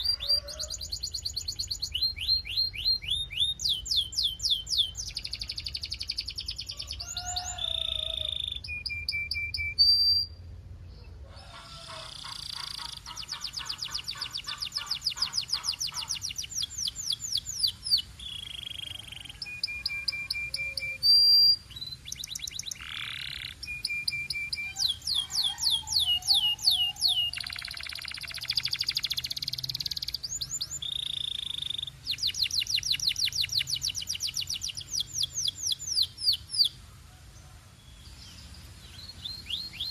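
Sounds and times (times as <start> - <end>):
canary singing: 0.0 - 36.8, 37.9 - 39.9.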